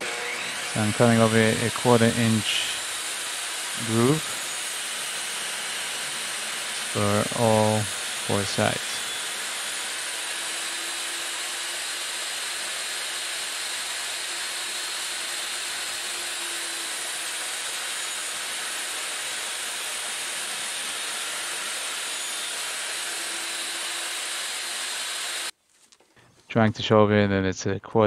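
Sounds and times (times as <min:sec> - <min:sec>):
table saw running: 0:00.0 - 0:25.5.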